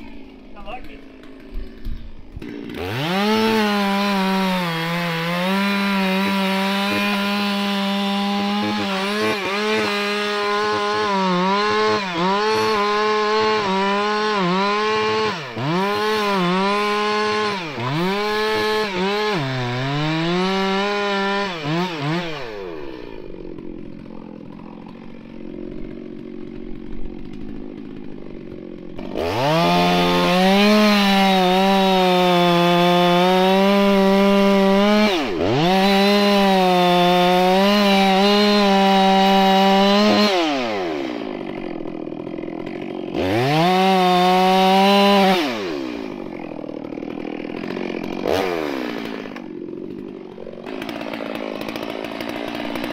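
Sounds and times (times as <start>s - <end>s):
chainsaw cutting: 0.0s - 52.9s.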